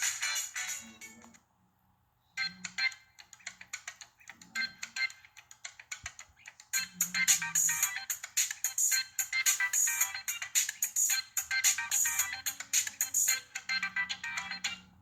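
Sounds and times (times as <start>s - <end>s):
rhythmic phone ringtone: 0.0s - 1.3s, 2.4s - 15.0s.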